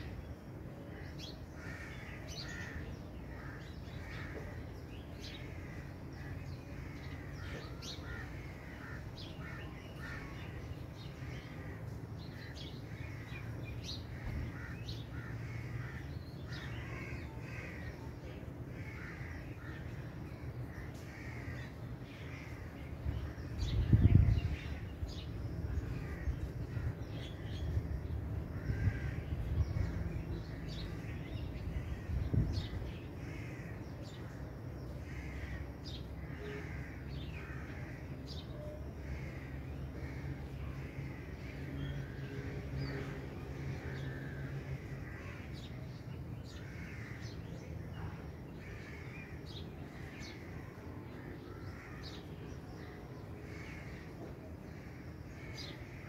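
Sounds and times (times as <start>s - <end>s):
birds calling: 0.0s - 56.0s
crow-like caws: 0.9s - 4.6s, 5.2s - 10.6s, 11.2s - 23.4s, 25.7s - 45.8s, 46.5s - 47.6s, 48.6s - 52.3s, 53.4s - 56.0s.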